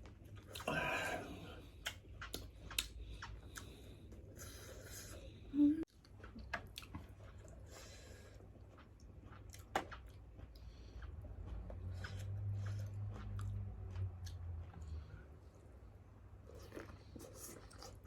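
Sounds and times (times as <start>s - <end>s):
chewing and crunching: 0.0s - 18.0s.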